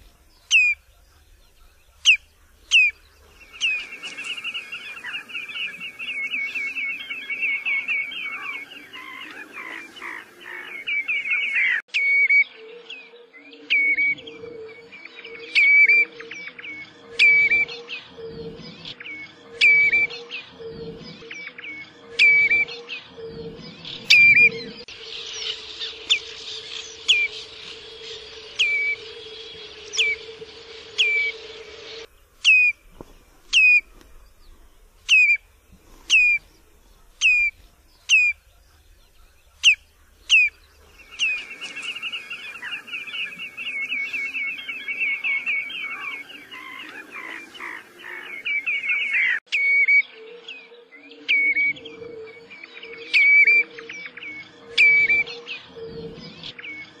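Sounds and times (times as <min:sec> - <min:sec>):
bird piping whistled calls: 0:00.0 - 0:13.0, 0:24.0 - 0:56.9.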